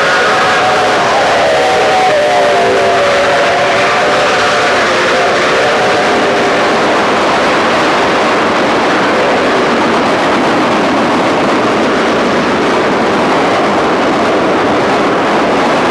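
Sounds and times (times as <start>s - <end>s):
train cars rushing by on rails: 0.0s - 15.9s.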